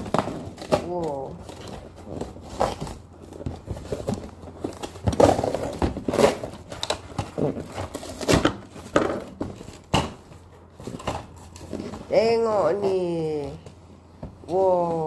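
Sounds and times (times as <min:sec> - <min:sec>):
plastic and cardboard crinkling: 0:00.0 - 0:15.0.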